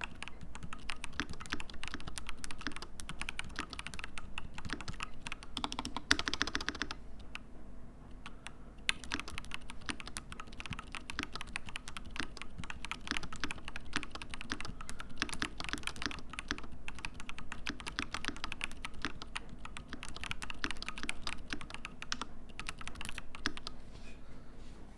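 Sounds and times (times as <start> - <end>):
mechanical keyboard typing: 0.0 - 7.4, 8.1 - 23.8.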